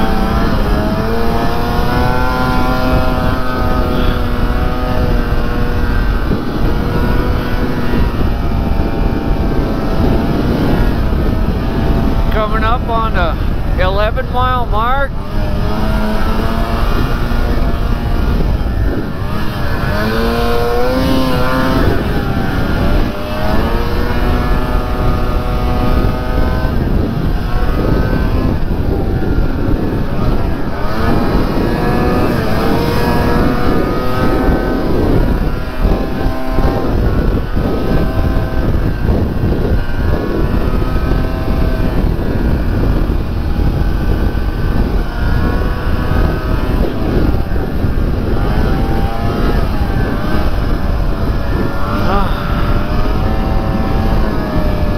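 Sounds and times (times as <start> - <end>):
snowmobile engine running: 0.0 - 54.9.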